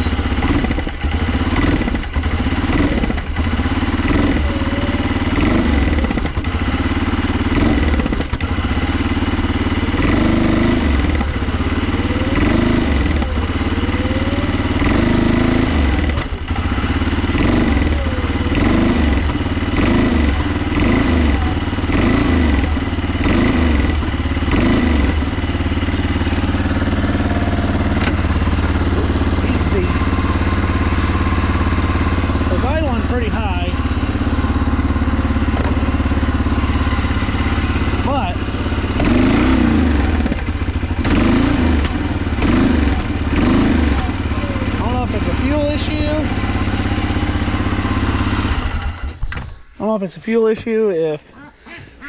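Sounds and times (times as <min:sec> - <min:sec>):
engine idling with a rattle: 0:00.0 - 0:51.1.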